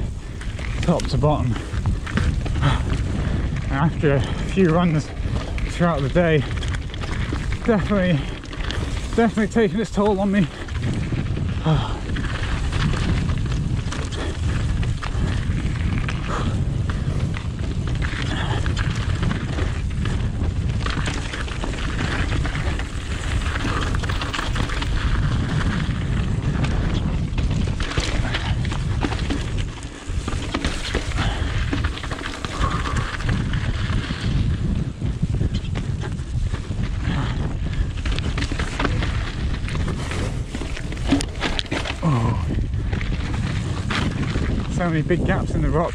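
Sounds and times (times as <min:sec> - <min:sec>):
bike rattling and knocking: 0:00.0 - 0:45.9
bike tyres rumbling over stones: 0:00.0 - 0:45.9.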